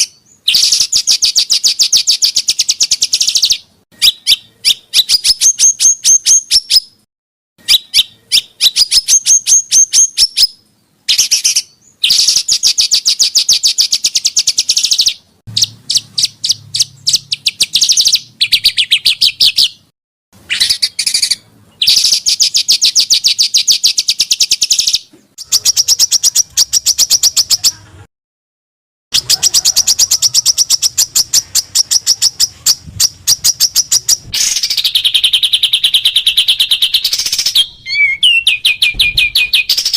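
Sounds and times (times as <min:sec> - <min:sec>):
songbirds singing rapid notes: 0:00.0 - 0:27.8, 0:29.1 - 0:39.9.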